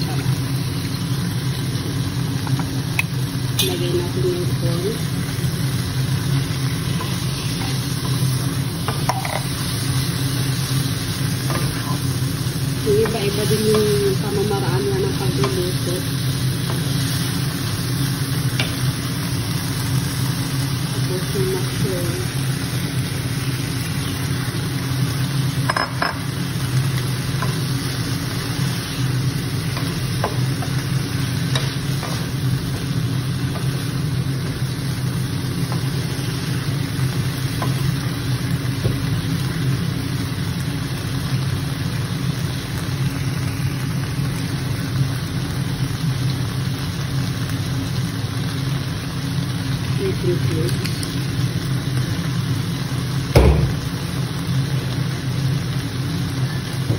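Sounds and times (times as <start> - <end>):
vegetables sizzling in a pan: 0.0 - 56.9.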